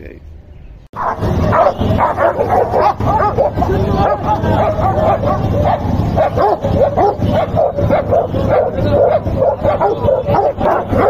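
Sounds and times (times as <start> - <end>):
dogs barking rapidly: 1.0 - 11.0.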